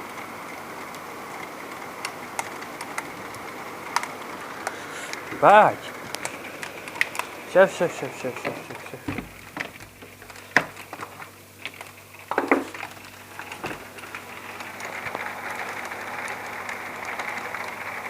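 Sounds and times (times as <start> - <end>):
hailstones ticking on window glass: 0.0 - 18.0
hiss of falling hail: 0.0 - 18.0.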